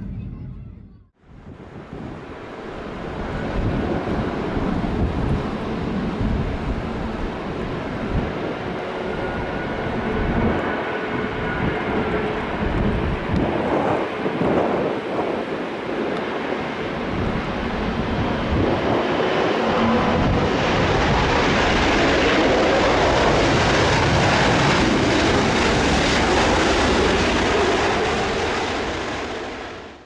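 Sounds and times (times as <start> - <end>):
jet engines passing: 0.0 - 30.0.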